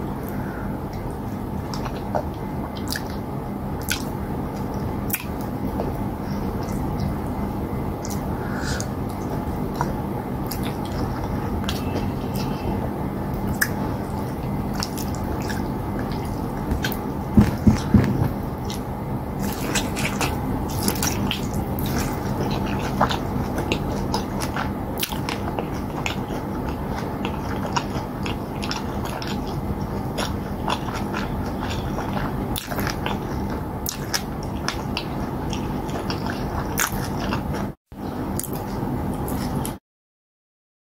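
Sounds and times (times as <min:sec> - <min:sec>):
steady low hum: 0:00.0 - 0:39.8
wet chewing: 0:00.9 - 0:03.2, 0:03.8 - 0:07.4, 0:08.0 - 0:37.8.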